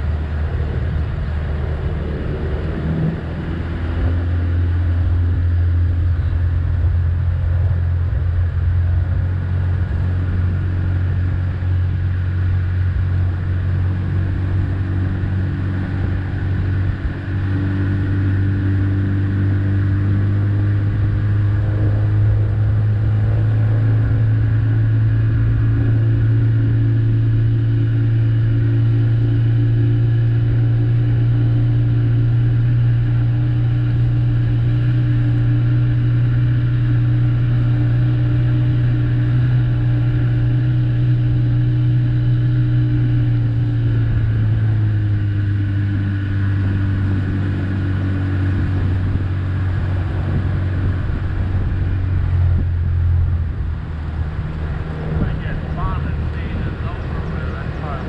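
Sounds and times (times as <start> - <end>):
boat motor humming: 0.0 - 58.0.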